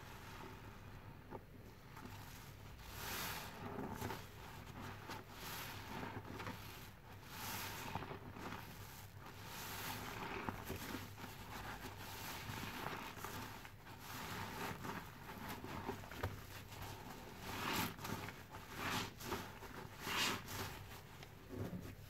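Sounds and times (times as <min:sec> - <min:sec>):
sponge squelching in foam: 0:01.9 - 0:22.0.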